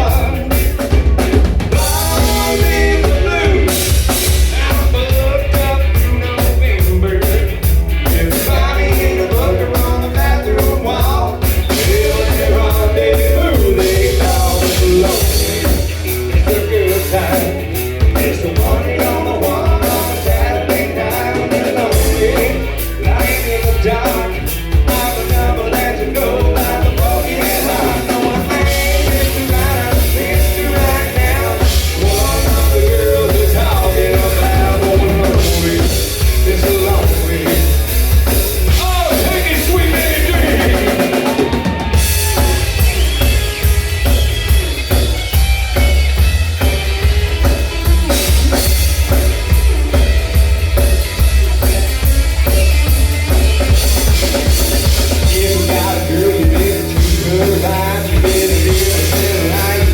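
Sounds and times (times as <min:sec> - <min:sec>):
person singing: 0:00.0 - 0:44.2, 0:47.2 - 0:59.9
rock band playing: 0:00.0 - 0:59.9.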